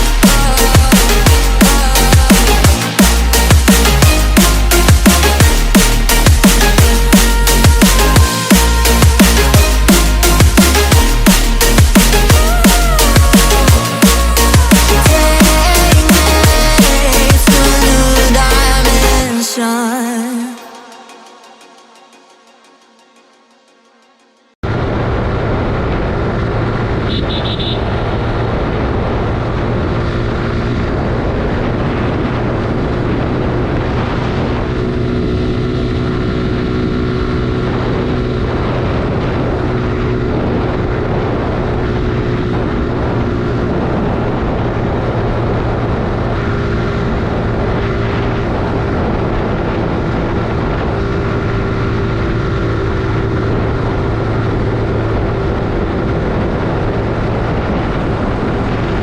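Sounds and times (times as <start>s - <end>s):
rushing noise: 0.0s - 23.8s, 24.6s - 59.0s.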